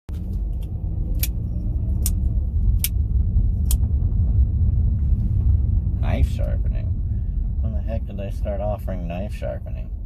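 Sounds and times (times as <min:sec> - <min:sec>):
car engine rumble inside cabin: 0:00.1 - 0:10.0.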